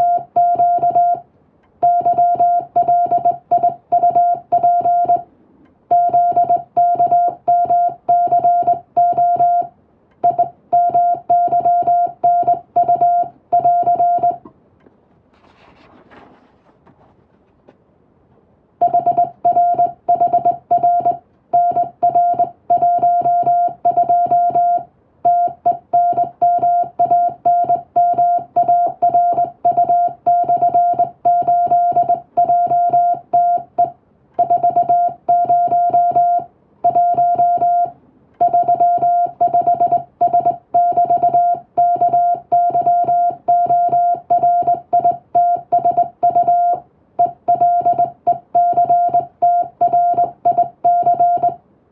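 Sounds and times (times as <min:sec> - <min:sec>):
morse code tone: 0:00.0 - 0:01.2, 0:01.8 - 0:05.3, 0:05.9 - 0:14.4, 0:18.8 - 0:51.6.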